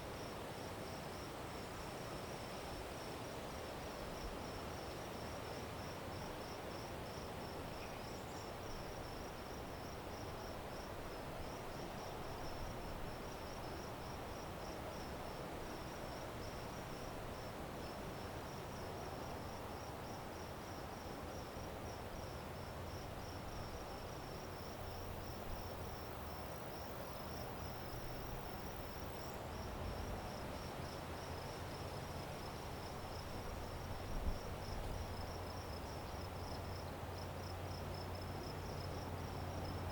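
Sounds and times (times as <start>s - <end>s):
background hiss: 0.0s - 39.9s
crickets chirping: 0.2s - 39.9s.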